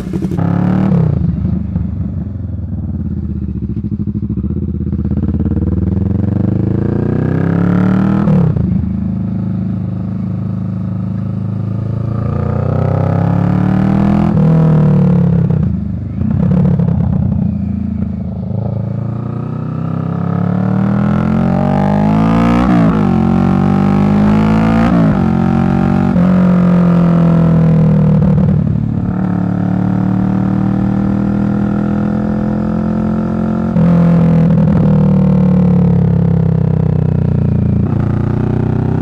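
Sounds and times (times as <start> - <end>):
motorcycle engine riding: 0.0 - 39.0.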